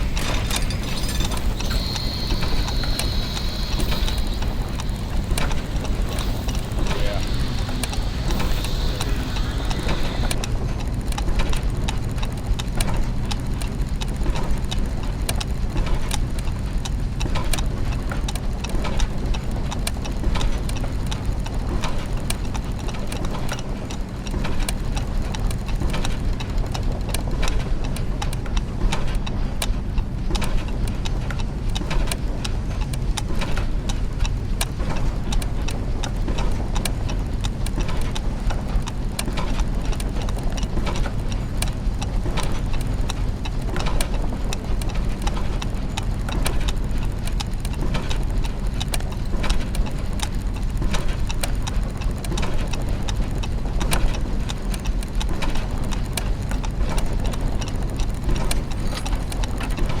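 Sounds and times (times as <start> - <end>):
clockwork ticks and clicks: 0.0 - 60.0
low mechanical hum: 0.0 - 60.0.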